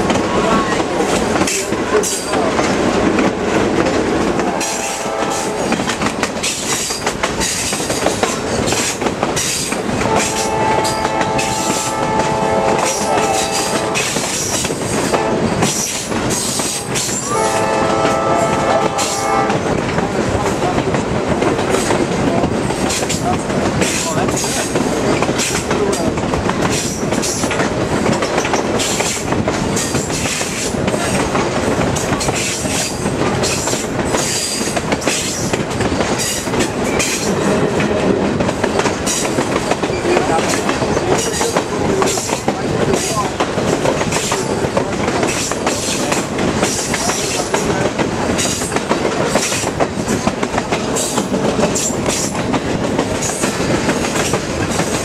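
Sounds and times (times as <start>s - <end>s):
train wheels rumbling on rails: 0.0s - 55.0s
wheels clacking over rail joints: 0.0s - 55.0s.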